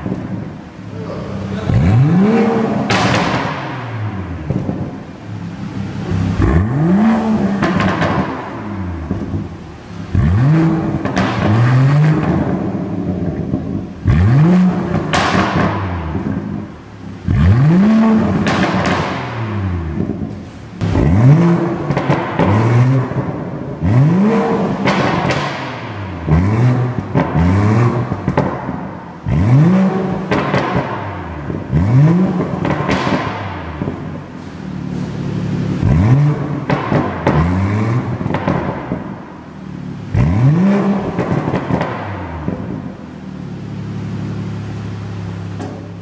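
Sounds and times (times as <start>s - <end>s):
exhaust pops: 0.0s - 43.9s, 44.6s - 46.0s
car engine idling: 0.0s - 46.0s
car engine revving: 0.0s - 46.0s.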